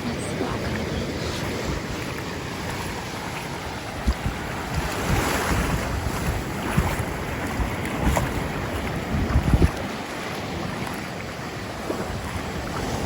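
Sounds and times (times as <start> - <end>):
ocean waves on sandy shore: 0.0 - 13.0
wind buffeting microphone: 0.0 - 13.0.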